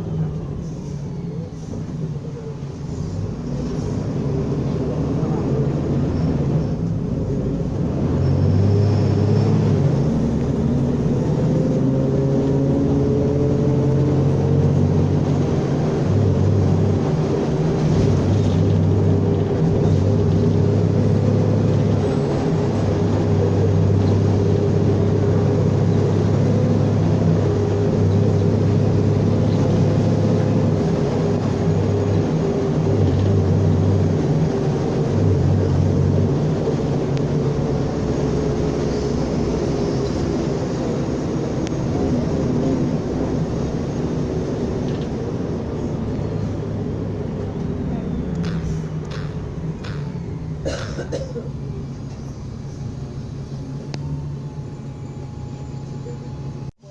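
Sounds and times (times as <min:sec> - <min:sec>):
bus engine hum and whine: 0:00.0 - 0:56.9.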